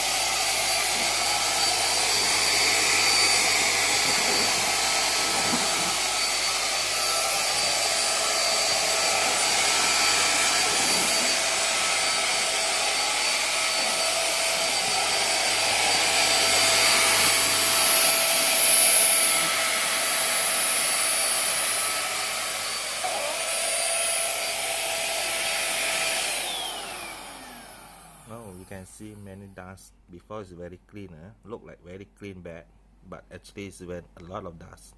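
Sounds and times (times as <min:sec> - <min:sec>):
handheld vacuum cleaner running: 0:00.0 - 0:28.8.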